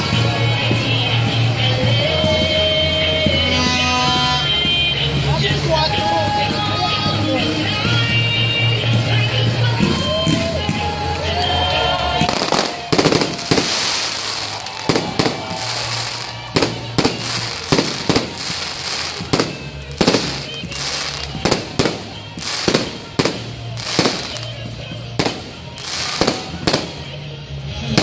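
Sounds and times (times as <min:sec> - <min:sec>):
crackling hiss: 0:00.0 - 0:28.0
fireworks bangs and pops: 0:00.0 - 0:28.0.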